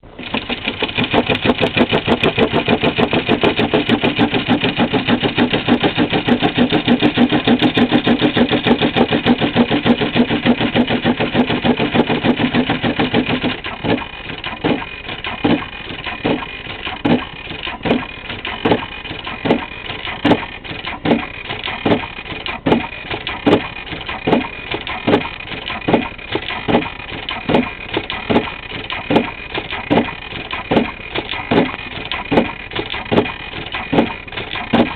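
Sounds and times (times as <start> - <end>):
sewing machine needle strokes: 0.2 - 34.9.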